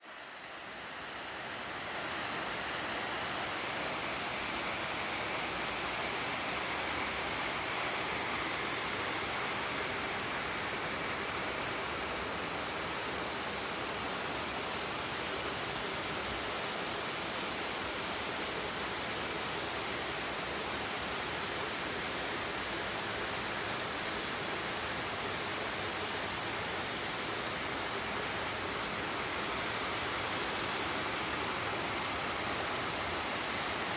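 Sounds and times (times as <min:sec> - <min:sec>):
creek water flowing: 0:00.0 - 0:33.9.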